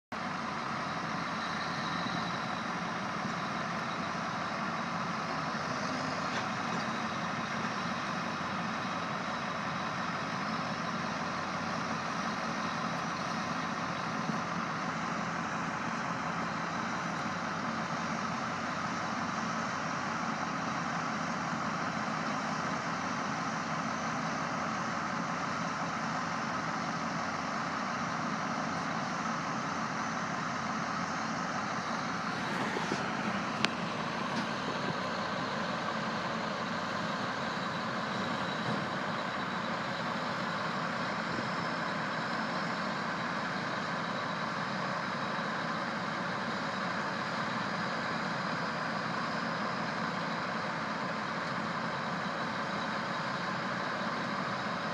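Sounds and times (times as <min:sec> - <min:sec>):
diesel engine noise: 0:00.1 - 0:54.9
dump cart machinery lifting: 0:00.2 - 0:54.9.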